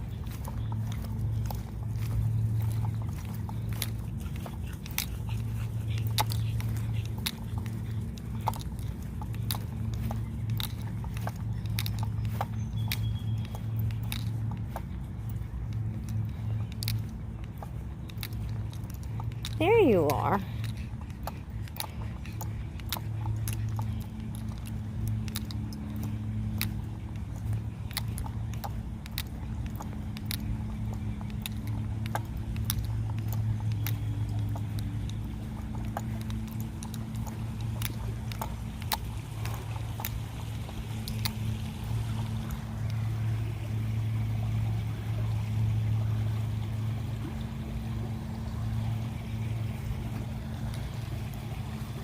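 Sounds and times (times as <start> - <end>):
sharp clicks and ticks: 0.0 - 45.3
low mechanical drone: 0.0 - 52.0
steady low hum: 0.0 - 52.0.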